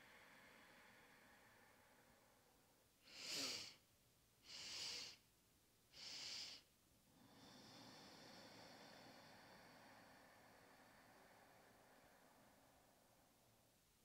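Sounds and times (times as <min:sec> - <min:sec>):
faint long breath out: 0:00.0 - 0:03.8, 0:06.0 - 0:13.6.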